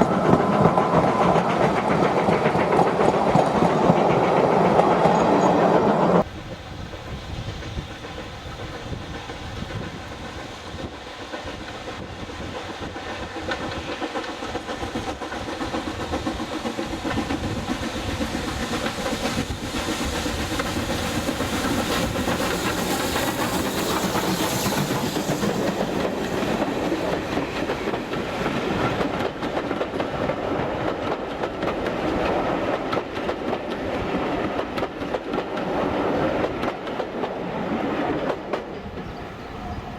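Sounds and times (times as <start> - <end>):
steam train running: 0.0 - 39.9.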